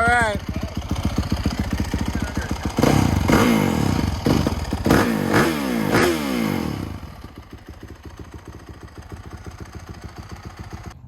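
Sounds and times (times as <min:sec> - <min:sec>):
motorcycle engine revving and idling: 0:00.0 - 0:11.0.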